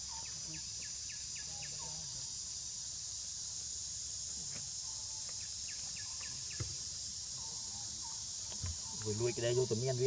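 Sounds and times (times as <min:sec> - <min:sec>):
insect chorus drone: 0:00.0 - 0:10.0.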